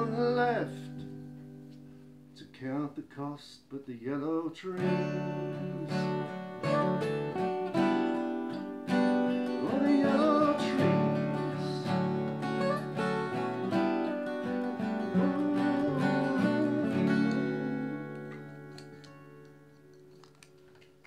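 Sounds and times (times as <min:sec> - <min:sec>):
acoustic guitars playing folk song: 0:00.0 - 0:03.3, 0:04.0 - 0:21.0.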